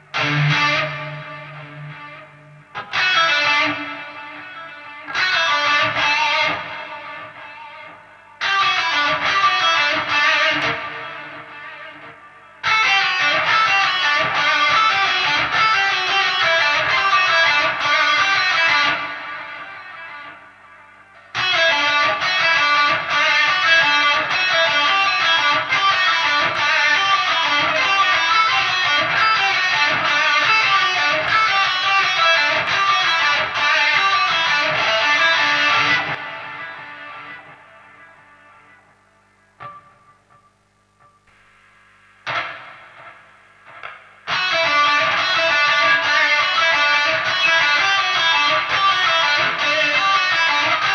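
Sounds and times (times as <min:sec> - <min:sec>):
electric guitar solo: 0:00.0 - 0:40.4, 0:42.2 - 0:50.9.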